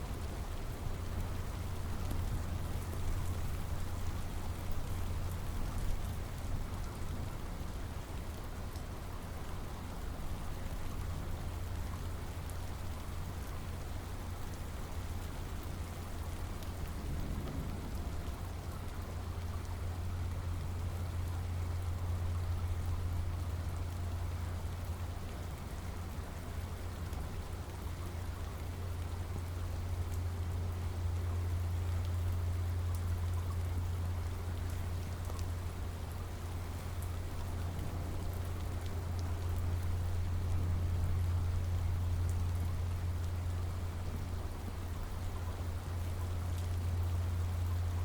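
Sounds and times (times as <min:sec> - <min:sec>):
rain pattering on surfaces: 0:00.0 - 0:48.0.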